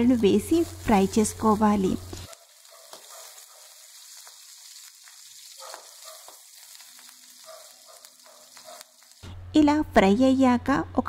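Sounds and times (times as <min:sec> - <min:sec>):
chillies sizzling in oil: 0:00.0 - 0:09.3.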